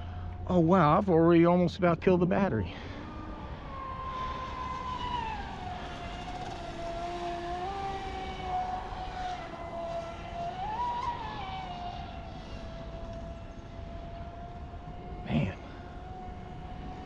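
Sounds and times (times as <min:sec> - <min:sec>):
boat motor whining: 0:00.0 - 0:17.0.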